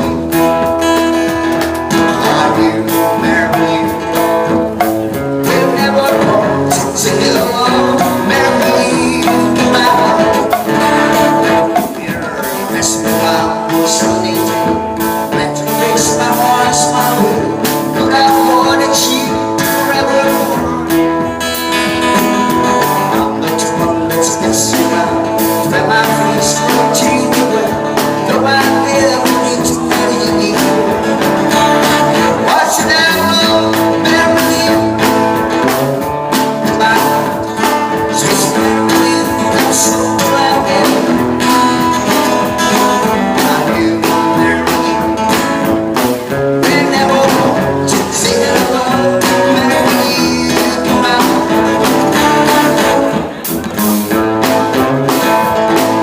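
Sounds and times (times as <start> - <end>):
country song with guitar: 0.0 - 56.0.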